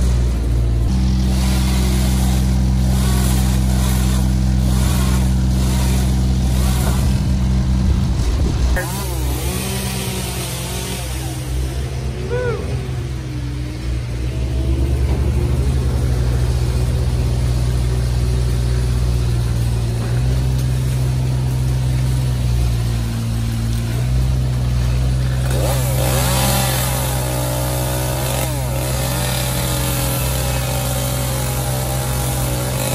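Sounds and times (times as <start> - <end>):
chainsaw revving: 0.0 - 32.9
engine droning: 0.0 - 32.9.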